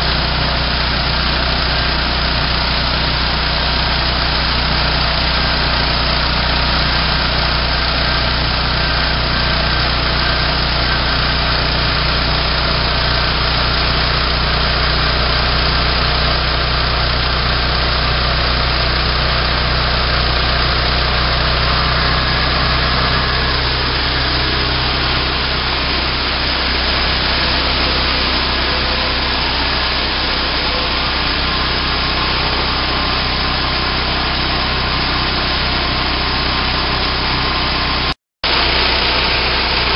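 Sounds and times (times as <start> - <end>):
small gasoline engine running: 0.0 - 39.9
bandsaw blade cutting log: 6.5 - 39.9.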